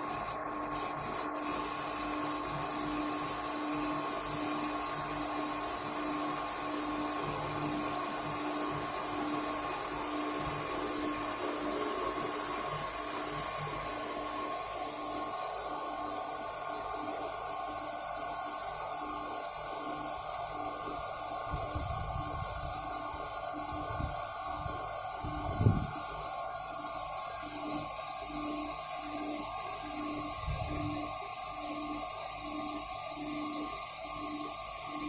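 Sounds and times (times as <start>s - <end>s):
continuous cutting noise: 0.0s - 35.0s
router spindle whine: 0.0s - 35.0s.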